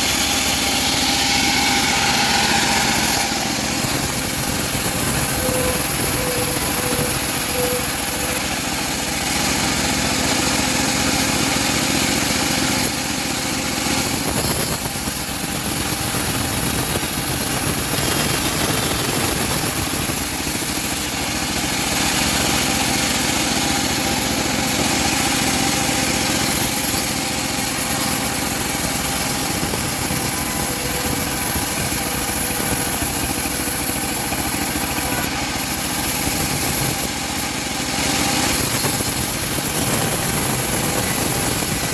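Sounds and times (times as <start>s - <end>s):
bandsaw sawing wood: 0.0s - 41.9s.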